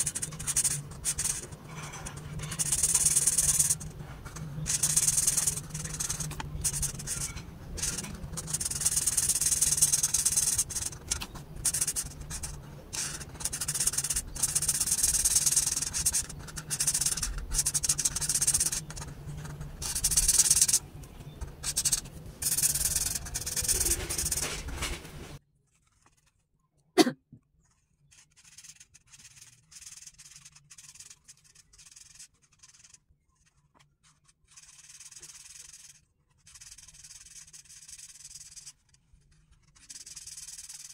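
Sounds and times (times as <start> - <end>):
marker scratching on paper: 0.0 - 26.4, 27.6 - 40.9.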